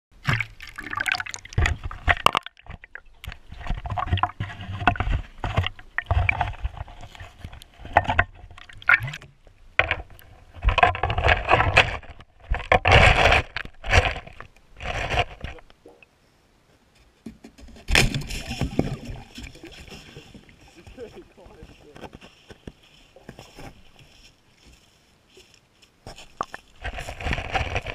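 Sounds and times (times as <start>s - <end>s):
water sloshing and gurgling: 0.1s - 16.2s, 17.6s - 24.2s.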